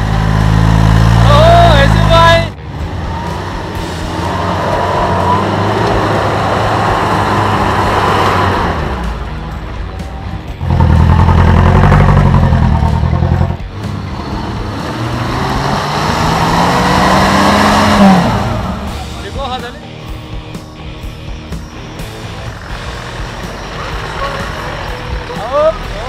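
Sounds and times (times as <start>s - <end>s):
engine revving: 0.0s - 26.0s
pickup engine passing: 0.0s - 26.0s.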